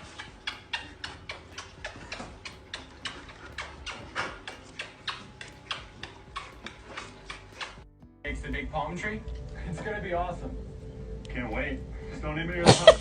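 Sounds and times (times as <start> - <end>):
faint low hum: 0.0 - 13.0
regular clicking: 0.0 - 13.0.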